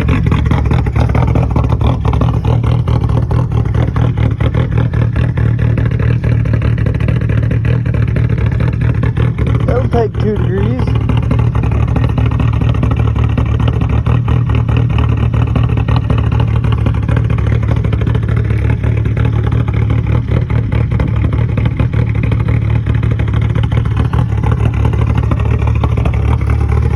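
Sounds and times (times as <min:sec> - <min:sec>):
diesel engine idling with clatter: 0:00.0 - 0:26.9.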